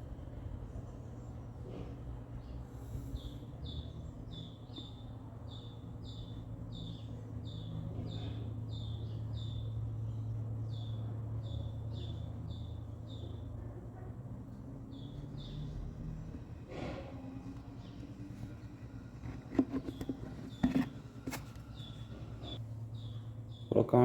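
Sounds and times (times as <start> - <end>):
steady low hum: 0.0 - 24.0
small bird chirping: 2.4 - 13.5, 14.9 - 16.6, 17.3 - 23.9.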